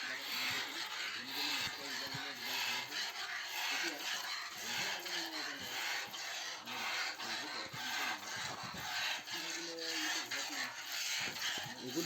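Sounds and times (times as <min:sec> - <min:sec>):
milk squirting into a pail: 0:00.0 - 0:12.0.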